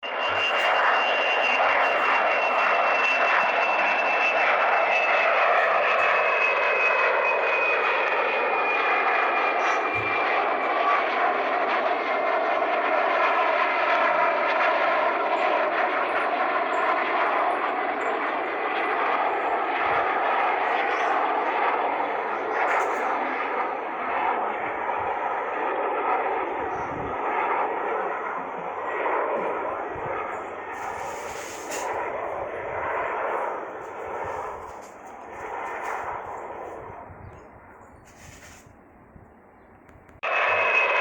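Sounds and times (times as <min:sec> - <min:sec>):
high turbine whine: 0:00.0 - 0:41.0
jet engines rushing: 0:00.0 - 0:41.0.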